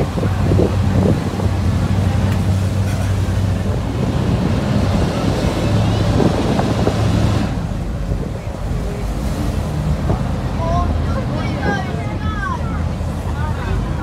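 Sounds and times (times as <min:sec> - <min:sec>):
boat engine droning: 0:00.0 - 0:14.0
water rushing: 0:00.0 - 0:14.0
wind buffeting microphone: 0:00.0 - 0:14.0.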